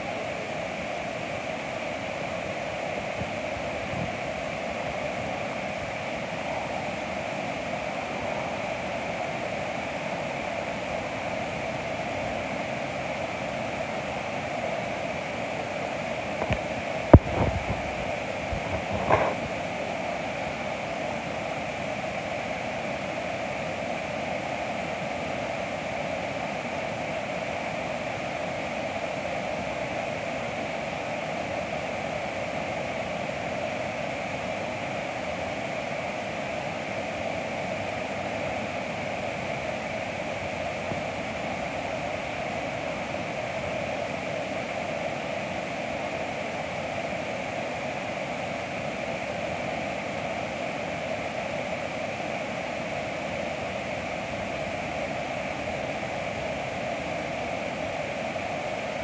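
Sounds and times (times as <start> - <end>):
whitewater rushing: 0.0 - 59.0.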